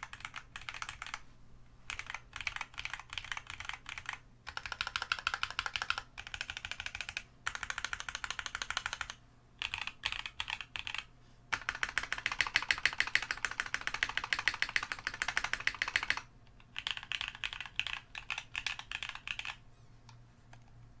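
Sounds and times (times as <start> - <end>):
typing on a mechanical keyboard: 0.0 - 1.2, 1.9 - 19.6.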